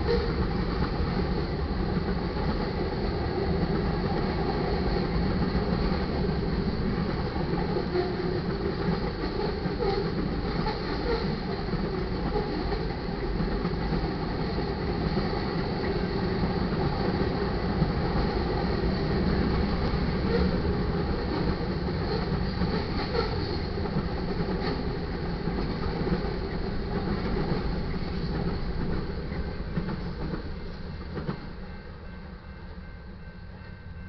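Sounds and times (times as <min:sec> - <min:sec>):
freight cars rumbling on rails: 0:00.0 - 0:34.0.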